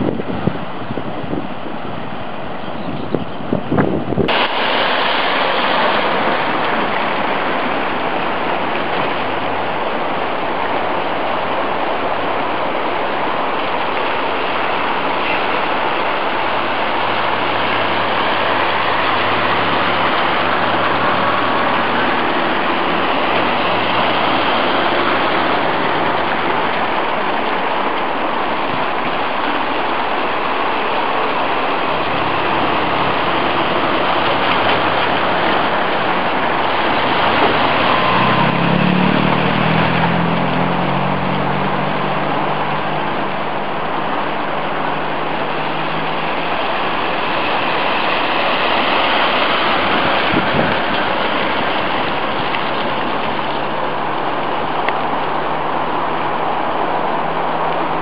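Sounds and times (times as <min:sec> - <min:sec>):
water rushing through a ford: 0:00.0 - 0:58.0
off-road vehicle engines running: 0:01.9 - 0:58.0.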